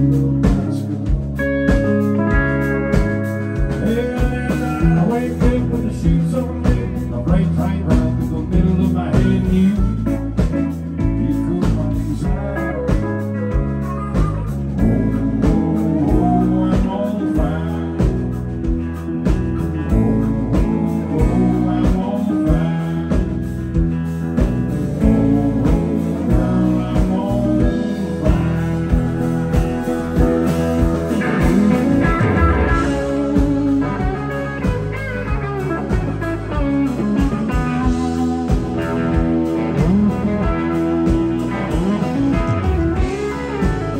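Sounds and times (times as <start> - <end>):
bass: 0.0 - 43.9
electric guitars: 0.0 - 43.9
steady drum beat: 0.0 - 43.9.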